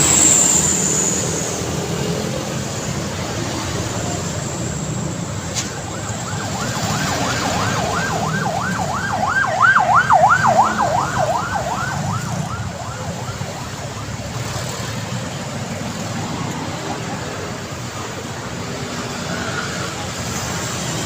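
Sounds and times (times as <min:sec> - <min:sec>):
emergency vehicle siren yelping: 0:00.0 - 0:21.0
traffic rumble: 0:00.0 - 0:21.0.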